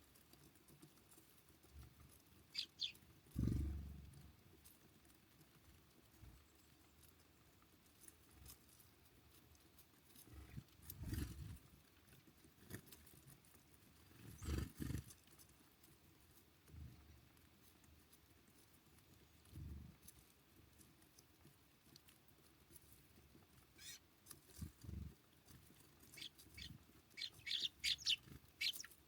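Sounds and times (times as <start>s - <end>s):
birds pecking at feeder: 0.0s - 29.0s.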